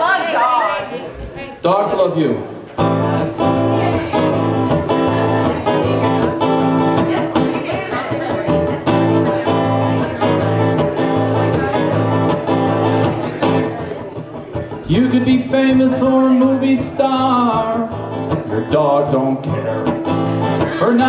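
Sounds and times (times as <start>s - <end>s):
acoustic guitar strumming: 2.8s - 21.0s.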